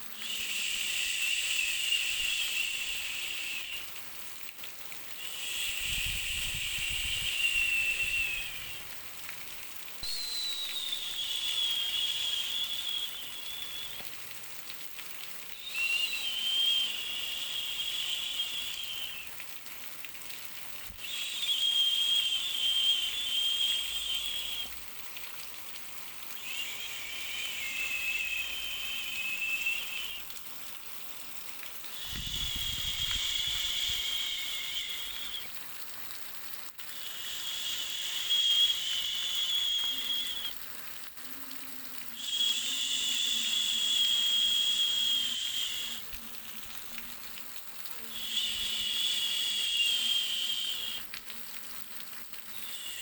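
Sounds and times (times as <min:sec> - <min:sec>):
hissing with faint whistling tone: 0:00.0 - 0:14.4, 0:15.2 - 0:35.8, 0:36.4 - 0:53.0.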